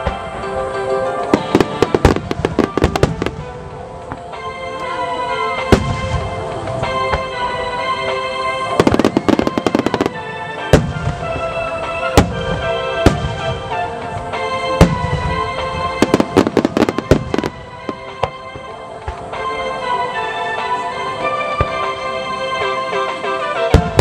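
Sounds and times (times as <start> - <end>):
firework shells bursting: 0.0 - 20.8
music: 0.0 - 24.0.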